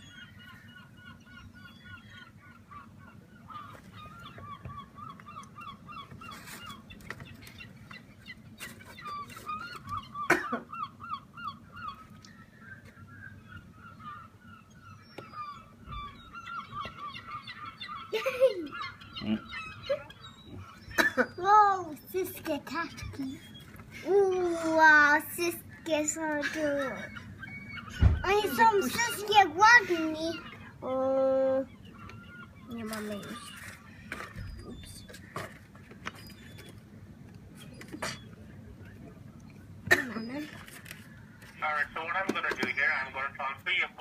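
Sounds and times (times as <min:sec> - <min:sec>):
gulls calling: 0:00.0 - 0:44.0.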